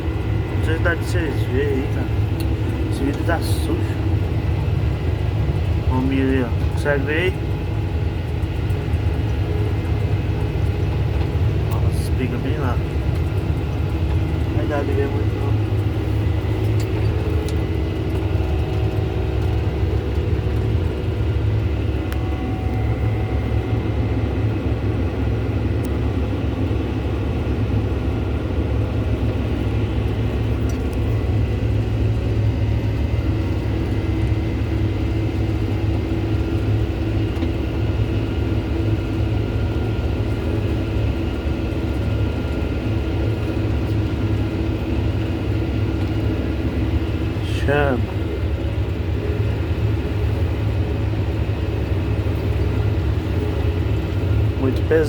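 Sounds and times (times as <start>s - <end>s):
tractor diesel engine rumble: 0.0s - 55.0s.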